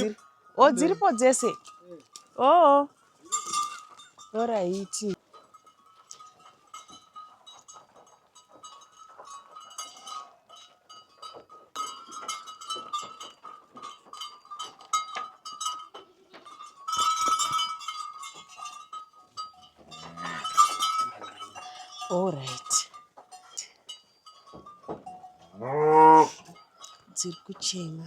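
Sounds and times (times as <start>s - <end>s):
small clicks and clinks: 1.4s - 2.4s, 3.2s - 25.6s, 26.4s - 28.0s.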